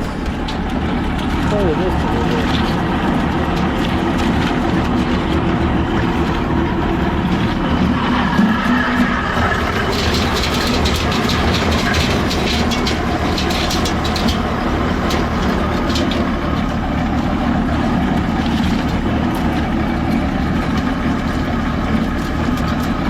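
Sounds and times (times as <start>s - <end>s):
dried corn crackling in grinder: 0.0s - 23.0s
tractor engine running: 0.0s - 23.0s.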